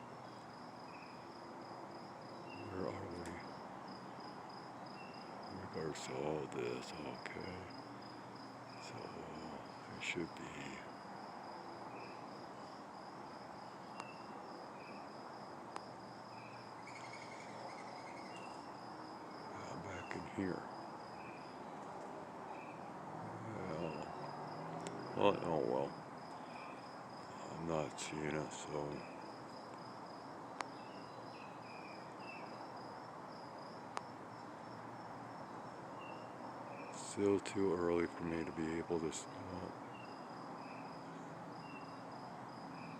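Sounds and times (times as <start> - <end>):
crickets chirping: 0.0 - 42.9
evening background noise: 0.0 - 42.9.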